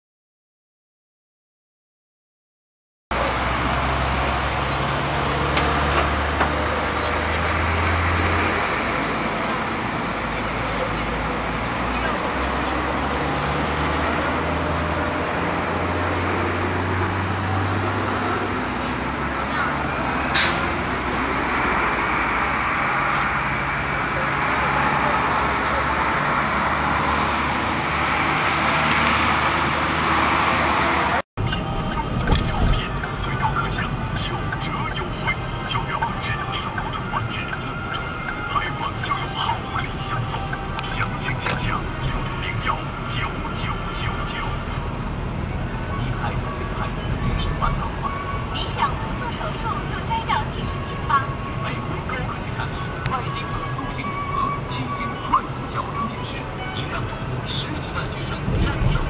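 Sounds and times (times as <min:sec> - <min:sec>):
low engine drone: 0:03.1 - 0:59.0
road traffic noise: 0:03.1 - 0:59.0.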